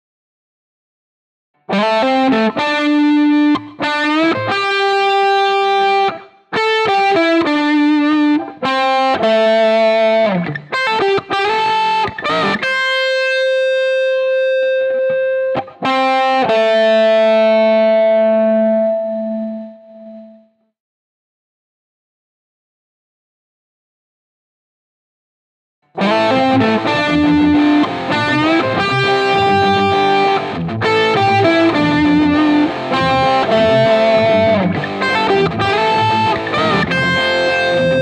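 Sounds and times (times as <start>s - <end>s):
electric guitar lick: 1.6s - 20.5s, 25.9s - 38.0s.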